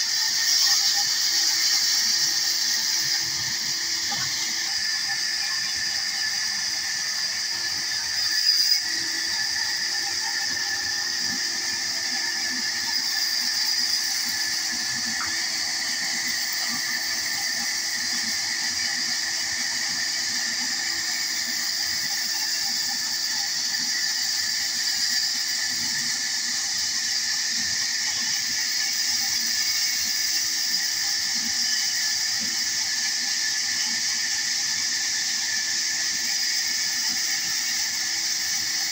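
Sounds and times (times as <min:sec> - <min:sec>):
band saw cutting wood: 0:00.0 - 0:34.8.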